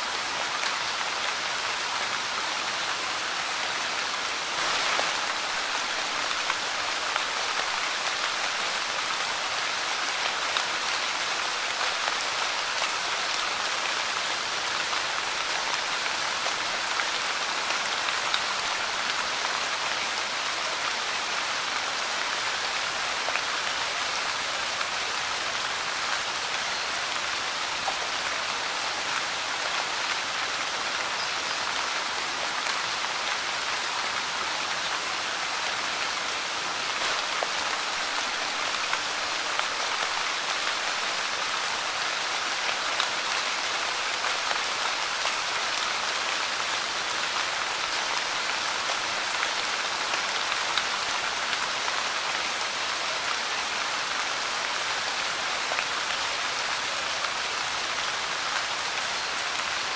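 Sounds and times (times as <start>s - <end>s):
light rain on a leaf: 0.1s - 59.9s.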